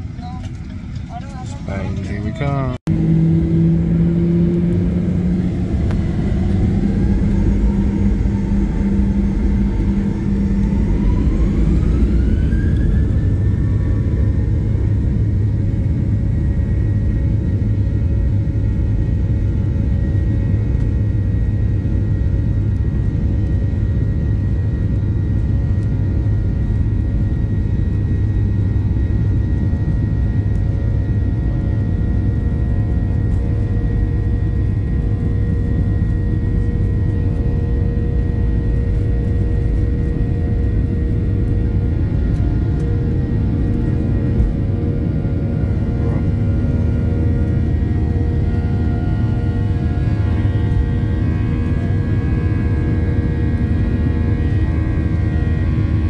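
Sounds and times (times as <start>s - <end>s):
airliner engines rumbling: 0.0s - 56.0s
jet engine whine: 0.0s - 56.0s.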